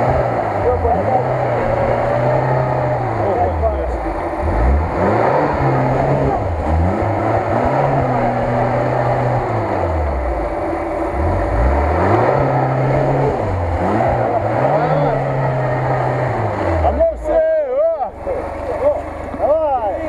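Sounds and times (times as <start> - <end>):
car engine revving under load: 0.0 - 20.0.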